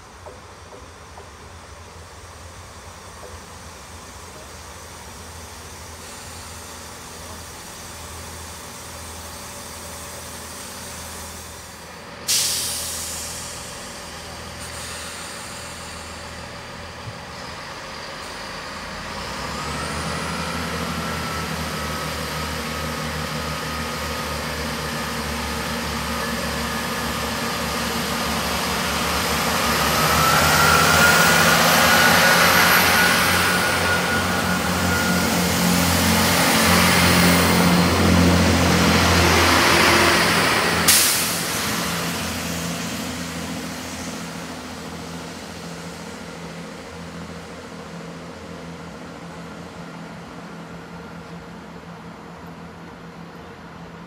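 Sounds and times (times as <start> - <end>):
diesel train engines whining: 0.0 - 54.0
train brakes air hiss: 2.1 - 19.9, 20.8 - 48.0.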